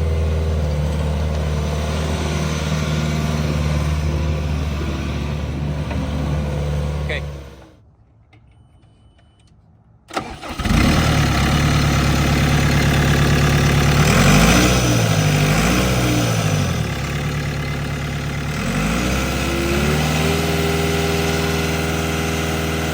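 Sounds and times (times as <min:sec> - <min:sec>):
diesel engine starting and running: 0:00.0 - 0:07.8, 0:10.0 - 0:22.9.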